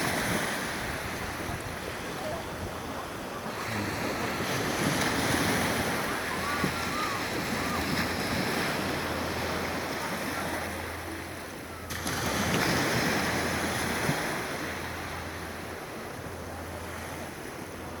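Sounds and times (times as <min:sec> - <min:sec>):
sea waves washing: 0:00.0 - 0:18.0
wind rumbling on microphone: 0:00.0 - 0:18.0.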